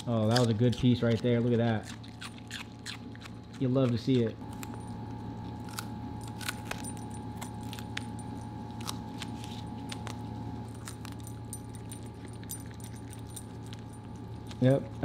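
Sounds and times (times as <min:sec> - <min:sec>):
dog chewing crunchy leaf: 0:00.0 - 0:15.0
low hum: 0:00.0 - 0:15.0.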